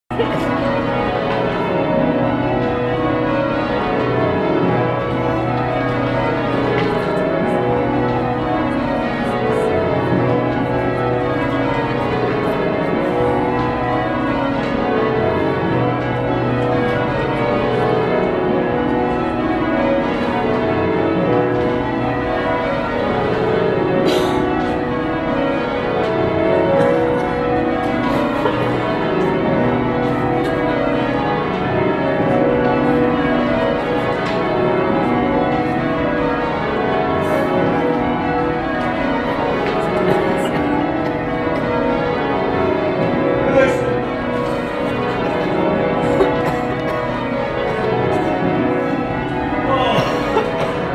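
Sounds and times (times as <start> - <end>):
church bells ringing: 0.1 - 50.9.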